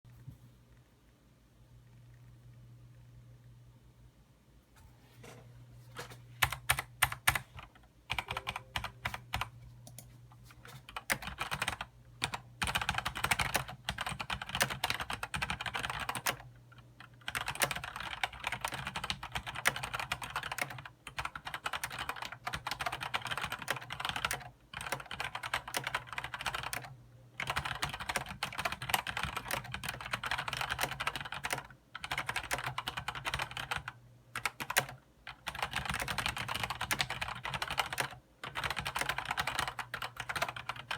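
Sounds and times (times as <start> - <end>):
fast typing on mechanical keyboard: 6.4 - 10.1, 10.7 - 40.9.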